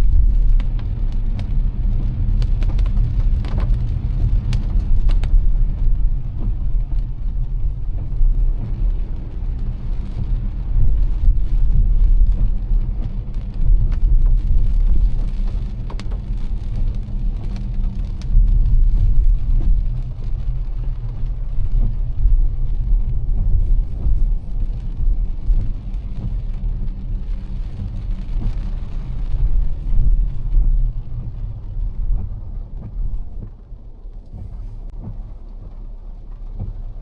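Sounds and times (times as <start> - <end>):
car tyres and engine rumble: 0.0 - 37.0
rain ticking on car: 0.0 - 37.0.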